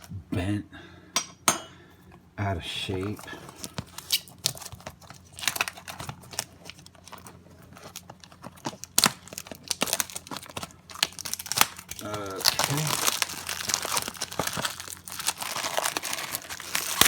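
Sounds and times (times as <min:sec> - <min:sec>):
plastic packaging crinkling: 0:02.9 - 0:17.0
plastic tearing: 0:03.0 - 0:17.0.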